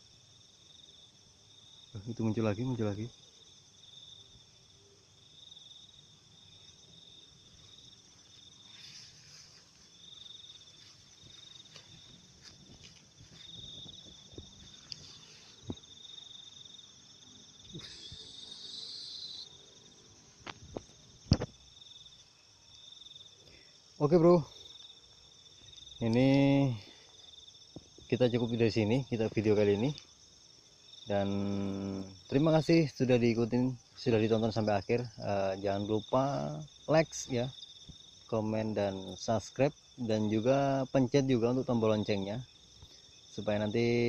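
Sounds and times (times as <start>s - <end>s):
crickets and insects trilling: 0.0s - 44.0s.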